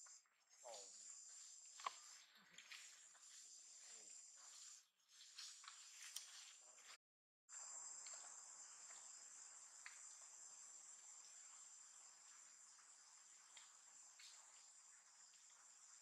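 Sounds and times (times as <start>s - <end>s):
high-pitched insect chorus: 0.0s - 6.5s, 7.5s - 16.0s.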